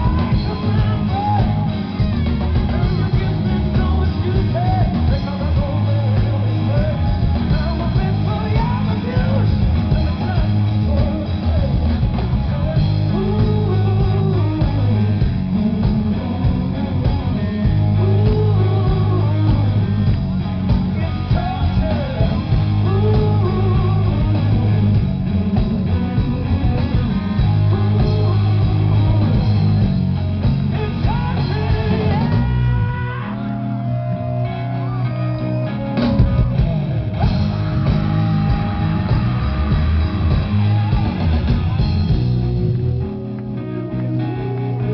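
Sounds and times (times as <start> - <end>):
person singing: 0.0 - 20.1, 20.9 - 29.7, 30.7 - 40.6
electric guitar with bent notes: 0.0 - 44.9
rock band playing live: 0.0 - 44.9.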